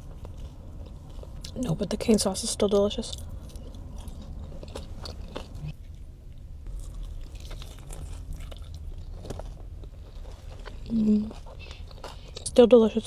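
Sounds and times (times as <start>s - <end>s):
close-up chewing: 0.0s - 12.6s.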